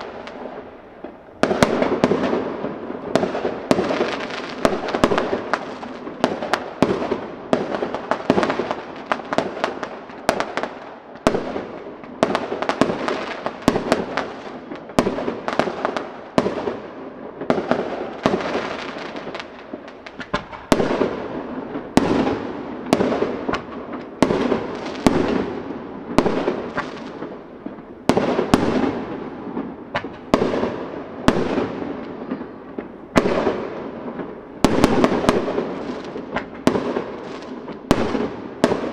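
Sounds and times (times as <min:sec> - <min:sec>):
fireworks bursting with sharp bangs: 0:00.0 - 0:38.9.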